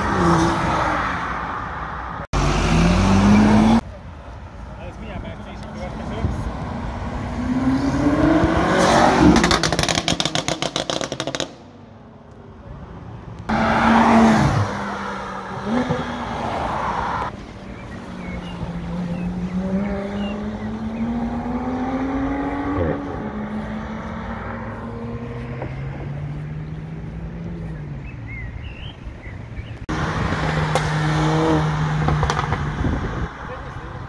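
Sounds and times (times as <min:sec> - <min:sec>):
car engines accelerating hard: 0:00.0 - 0:03.9, 0:05.5 - 0:11.6, 0:13.4 - 0:34.0.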